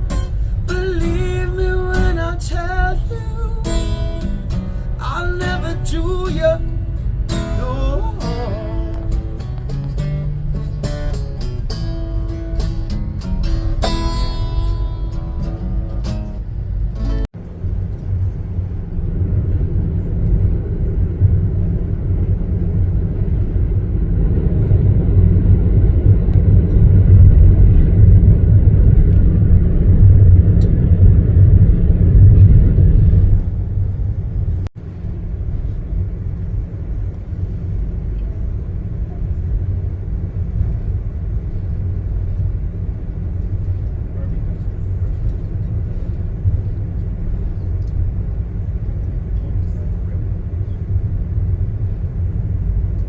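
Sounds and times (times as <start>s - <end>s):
train car rumbling on rails: 0.0s - 53.0s.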